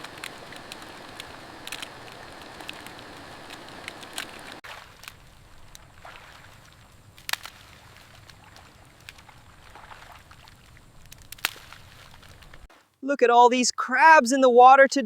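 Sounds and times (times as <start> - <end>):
splashing and squelching in mud: 0.0 - 12.7.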